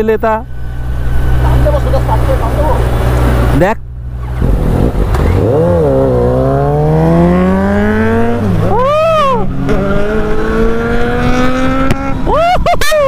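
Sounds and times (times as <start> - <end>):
motorcycle engine accelerating: 0.6 - 12.5.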